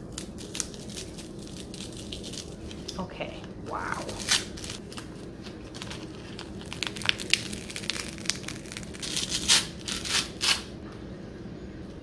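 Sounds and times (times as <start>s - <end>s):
cocoon crackling and tearing: 0.0s - 3.0s, 3.8s - 10.7s.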